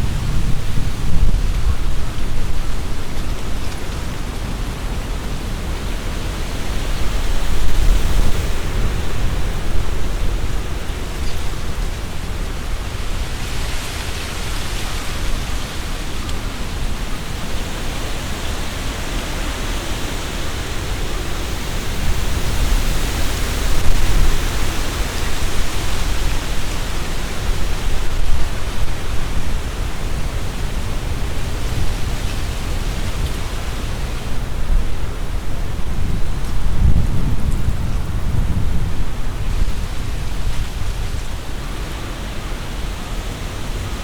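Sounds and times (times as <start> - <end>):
leaves rustling: 0.0 - 44.0
wind gusting through trees: 0.0 - 44.0.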